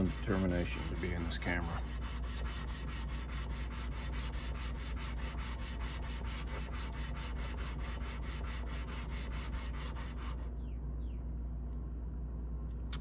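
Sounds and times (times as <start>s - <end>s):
blade scraping on sandpaper: 0.0s - 10.5s.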